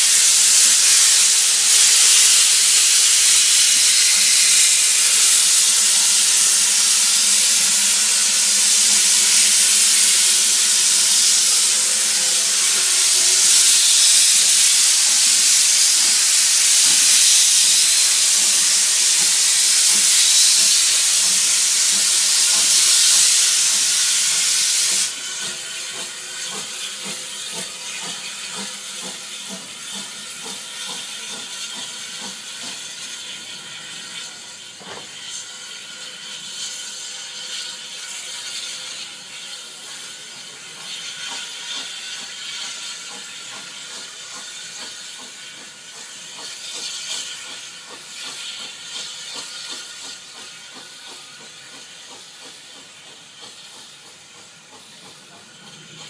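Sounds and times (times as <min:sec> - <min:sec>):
steam hissing: 0:00.0 - 0:56.0
steam locomotive working: 0:00.0 - 0:56.0.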